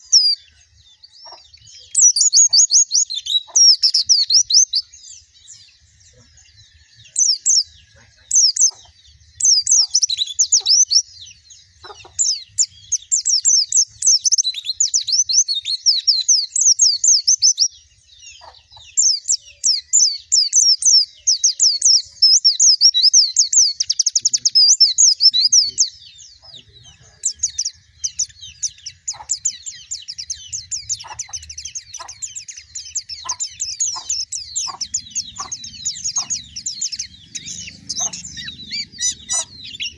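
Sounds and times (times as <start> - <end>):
bird singing high chirping notes: 0.0 - 39.9.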